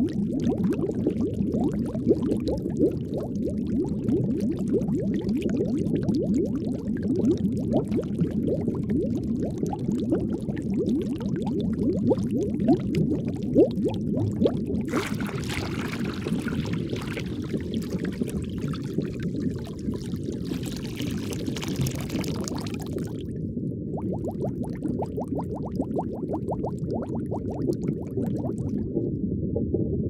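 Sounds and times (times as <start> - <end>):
underwater bubbling: 0.0 - 30.0.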